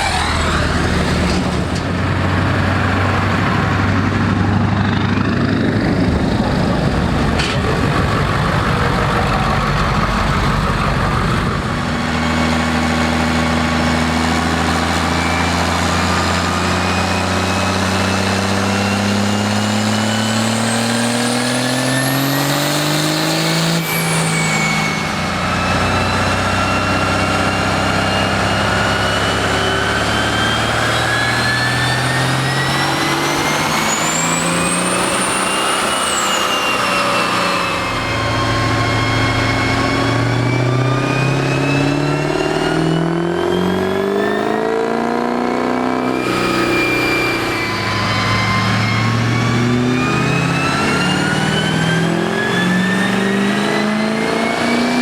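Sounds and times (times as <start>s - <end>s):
diesel truck engine revving: 0.0s - 55.0s
high whine: 0.0s - 55.0s.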